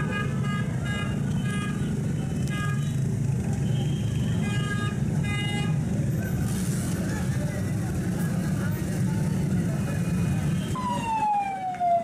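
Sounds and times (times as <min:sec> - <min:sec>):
idling engines rumbling: 0:00.0 - 0:10.8.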